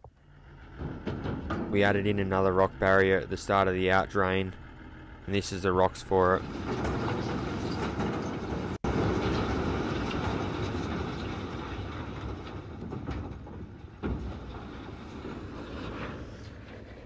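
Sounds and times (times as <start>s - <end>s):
rocks tumbling from a truck: 0.6s - 4.6s, 6.1s - 17.0s.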